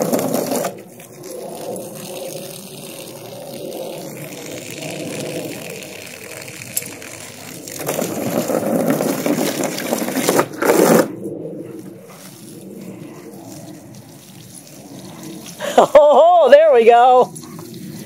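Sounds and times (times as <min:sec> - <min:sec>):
hose spray splashing water: 0:00.0 - 0:10.6, 0:12.0 - 0:18.0.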